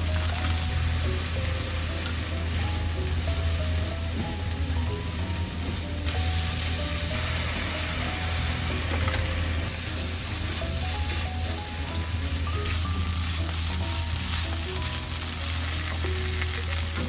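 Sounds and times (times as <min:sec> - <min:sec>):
background music stepping melody: 0:00.0 - 0:17.0
food sizzling in hot oil: 0:00.0 - 0:17.0.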